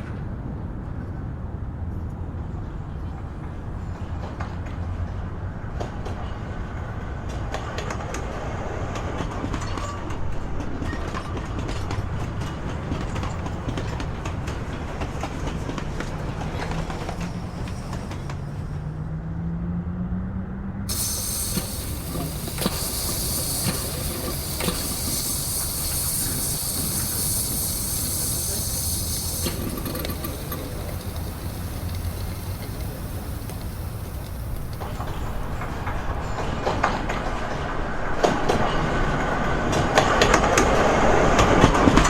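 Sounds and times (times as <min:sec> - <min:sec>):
model train running hum: 0:00.1 - 0:19.4, 0:20.9 - 0:42.0
wheels clicking over track: 0:03.2 - 0:19.2, 0:20.9 - 0:42.0.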